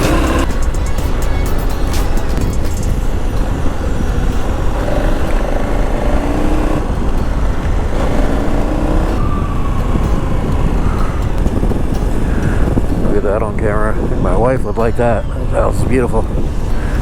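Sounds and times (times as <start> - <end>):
motorcycle engine running: 0.0 - 14.6
wind noise on microphone: 0.0 - 17.0.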